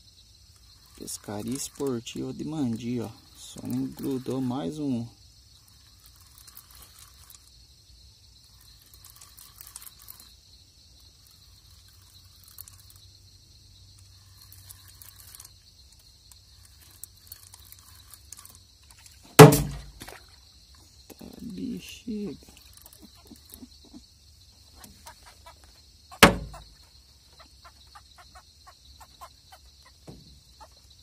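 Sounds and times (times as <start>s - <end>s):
insect chirring: 0.0s - 31.0s
small ticks: 0.0s - 31.0s.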